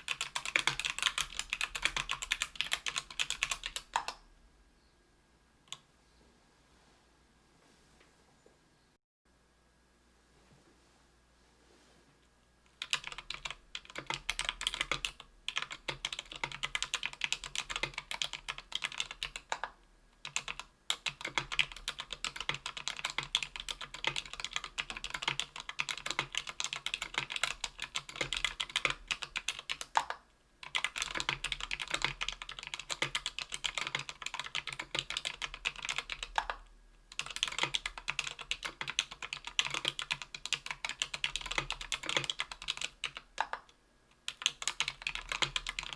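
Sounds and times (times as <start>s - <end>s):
fast typing on keyboard: 0.0s - 4.2s, 12.7s - 45.9s.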